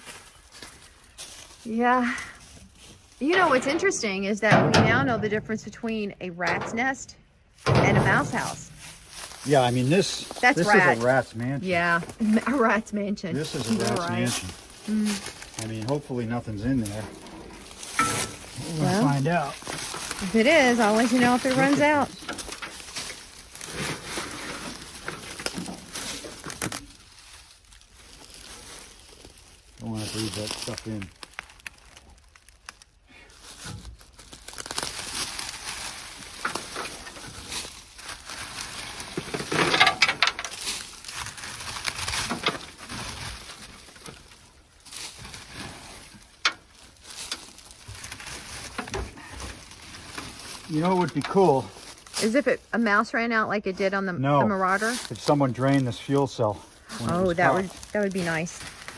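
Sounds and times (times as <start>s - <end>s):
dry nest material rustling: 8.1s - 53.2s, 54.2s - 58.9s.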